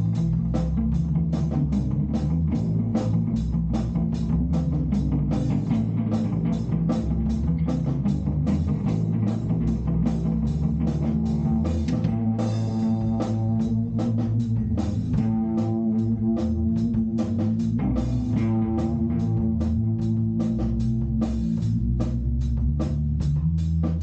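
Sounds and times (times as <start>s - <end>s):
bass guitar: 0.0s - 24.0s
drum kit beat: 0.0s - 24.0s
guitar: 0.0s - 24.0s.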